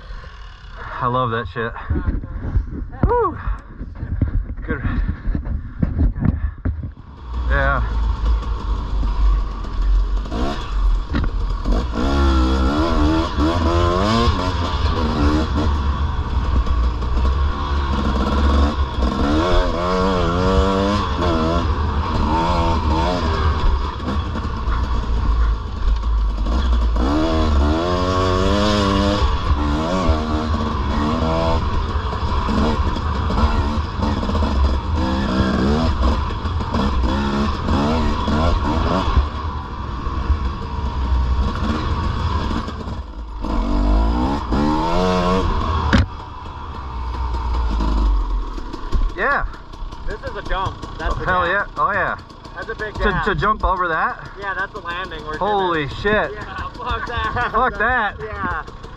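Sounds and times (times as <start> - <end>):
dirt bike engine revving: 0.0 - 1.0, 7.0 - 58.9.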